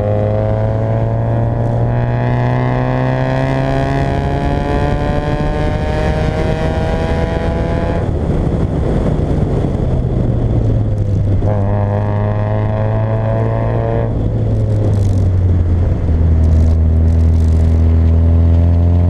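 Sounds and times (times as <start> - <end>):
car engine pulling under throttle: 0.0 - 19.0
road and wind noise: 0.0 - 19.0.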